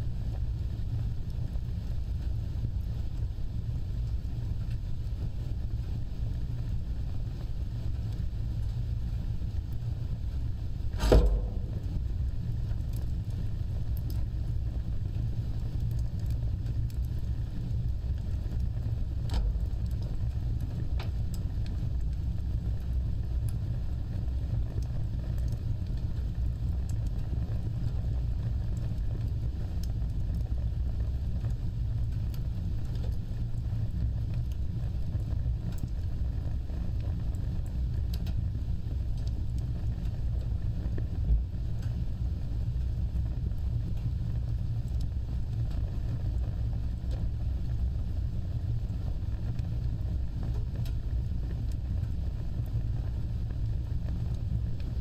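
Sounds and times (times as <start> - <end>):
wood fire rumbling: 0.0 - 55.0
fire crackling pops: 4.6 - 55.0.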